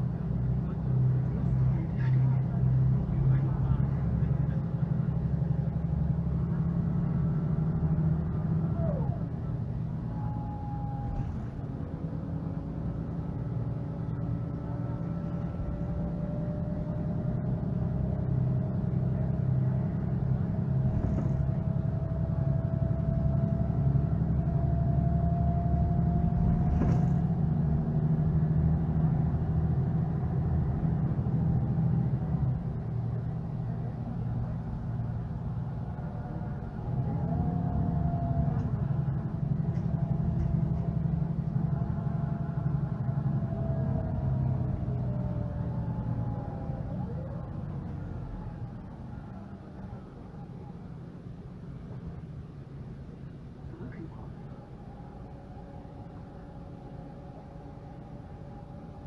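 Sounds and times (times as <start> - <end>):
bus diesel engine whining: 0.0 - 59.0.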